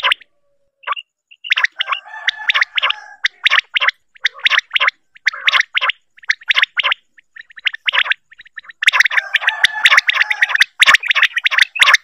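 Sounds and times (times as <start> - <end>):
quail calling: 0.0 - 12.0.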